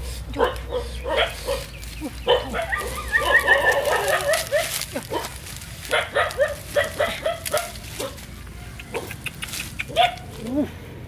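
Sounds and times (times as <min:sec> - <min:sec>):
dry palm fronds rustling: 0:00.0 - 0:10.8
animal yapping calls: 0:00.4 - 0:08.2, 0:08.8 - 0:10.8.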